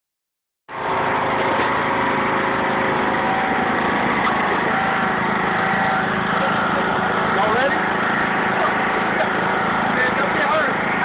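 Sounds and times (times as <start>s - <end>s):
lawn mower engine running: 0.7s - 11.0s.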